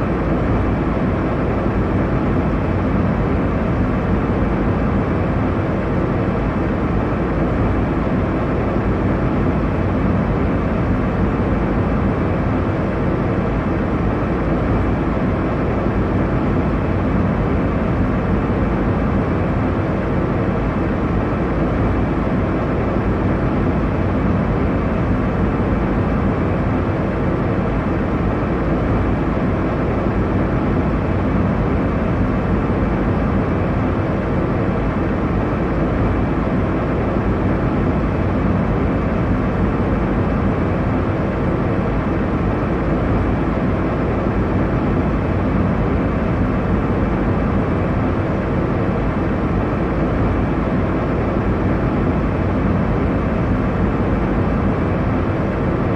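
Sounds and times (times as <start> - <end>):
airliner cabin engine rush: 0.0 - 55.9.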